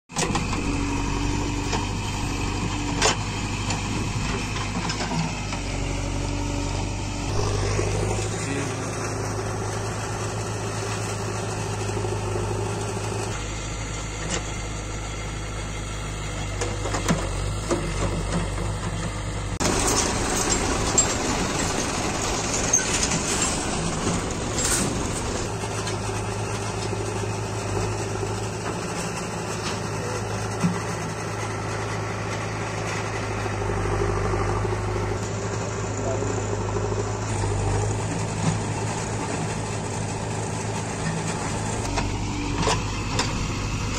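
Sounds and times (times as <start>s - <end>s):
diesel engine running under load: 0.1s - 43.9s.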